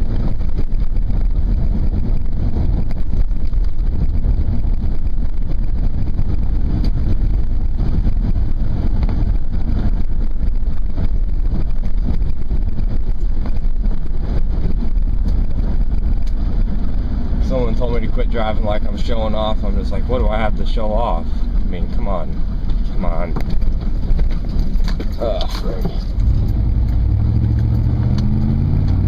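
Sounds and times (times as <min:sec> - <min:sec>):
truck engine and road rumble: 0:00.0 - 0:29.0.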